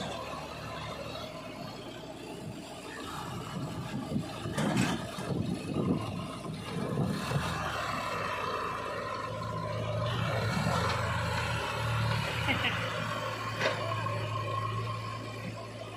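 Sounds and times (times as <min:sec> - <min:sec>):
diesel engines running under load: 0:00.0 - 0:15.9.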